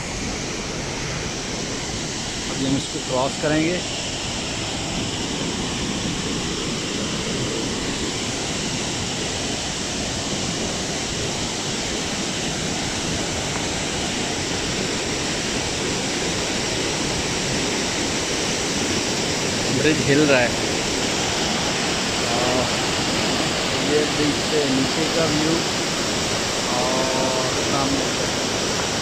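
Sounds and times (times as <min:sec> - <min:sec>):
stream rushing over boulders: 0:00.0 - 0:29.0.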